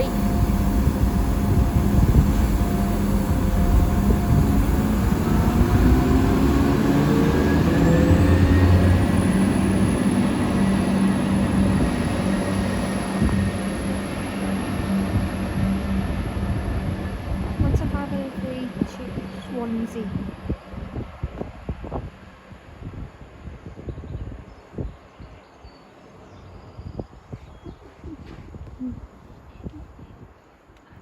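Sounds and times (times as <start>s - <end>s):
train engines droning: 0.0s - 26.8s
rising train whine: 0.0s - 28.2s.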